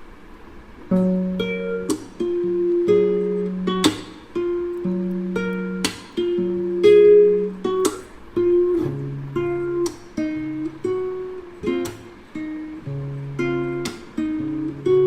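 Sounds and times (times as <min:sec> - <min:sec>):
plucked acoustic guitar melody: 0:00.8 - 0:15.0.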